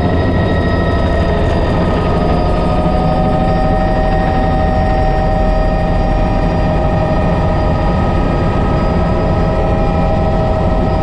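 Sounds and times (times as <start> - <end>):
helicopter turbine whine: 0.0 - 11.0
rotor and airflow rumble: 0.0 - 11.0.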